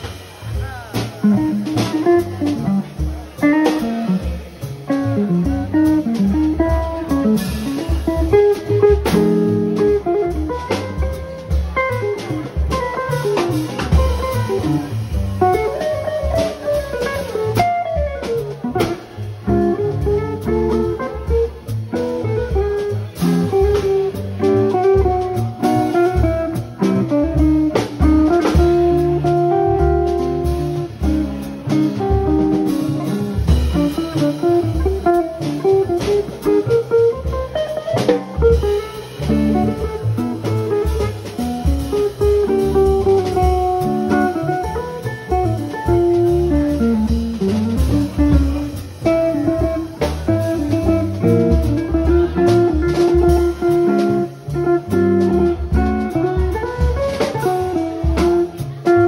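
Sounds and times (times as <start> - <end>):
drum kit with cymbals: 0.0 - 59.0
electric guitar melody: 0.0 - 59.0
plucked double bass: 0.0 - 59.0.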